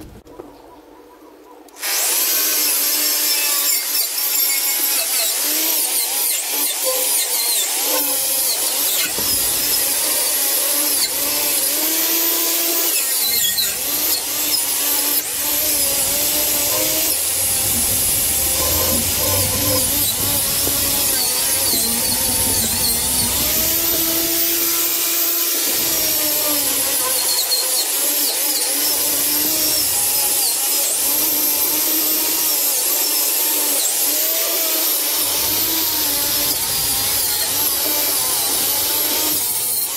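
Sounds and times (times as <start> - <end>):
angle grinder on steel: 1.8 - 39.9.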